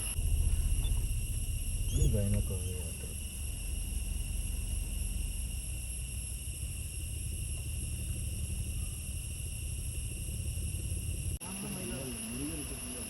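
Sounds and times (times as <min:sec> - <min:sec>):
low rumble: 0:00.0 - 0:11.4
high-pitched insect drone: 0:00.0 - 0:13.0.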